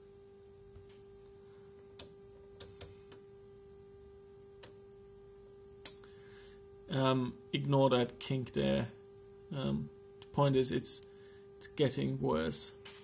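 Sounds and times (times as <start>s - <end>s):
amplifier hum: 0.0s - 13.0s.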